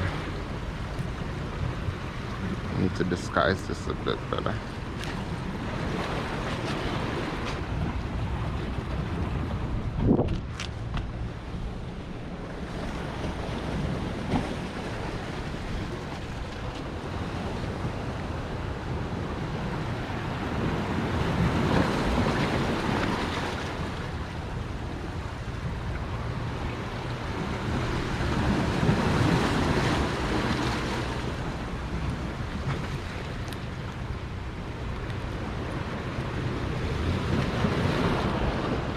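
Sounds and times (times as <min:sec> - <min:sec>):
ocean surf washing onto beach: 0:00.0 - 0:38.9
wind buffeting microphone: 0:04.5 - 0:38.9.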